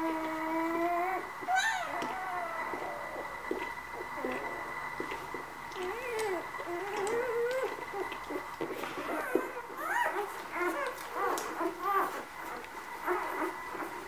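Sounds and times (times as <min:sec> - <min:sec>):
puppies squeaking and whimpering: 0:00.0 - 0:03.3, 0:05.7 - 0:14.0.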